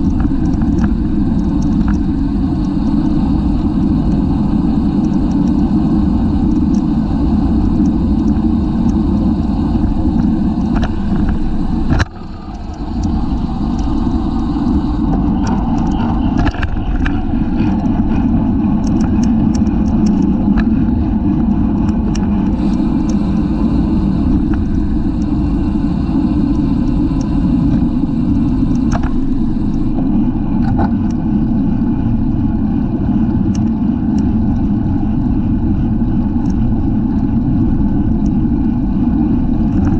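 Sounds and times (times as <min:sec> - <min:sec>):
light ticks from bicycle: 0:00.0 - 0:32.2, 0:32.8 - 0:39.9
wind rushing over microphone: 0:00.0 - 0:39.9.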